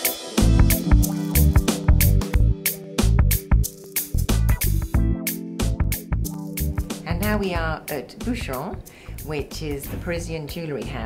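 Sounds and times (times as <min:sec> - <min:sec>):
instrumental music: 0:00.0 - 0:09.8
steady drum beat: 0:00.0 - 0:11.0.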